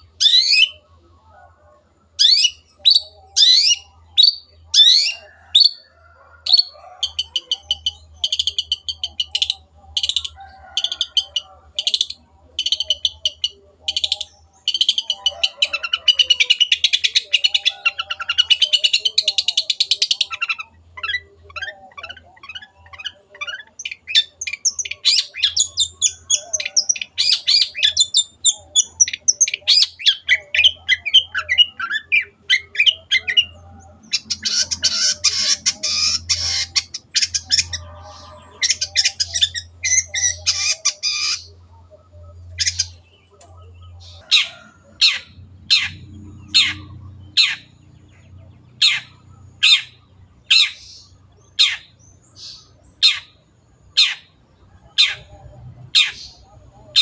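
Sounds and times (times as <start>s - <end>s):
bird sharp downward calls: 0.0s - 0.9s, 2.2s - 5.8s, 6.5s - 55.4s
bird chattering song: 0.0s - 1.4s, 2.0s - 57.0s.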